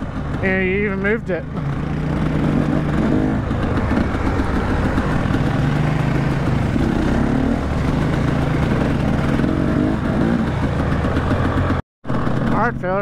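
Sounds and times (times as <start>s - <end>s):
off-road vehicle engine: 0.0s - 13.0s.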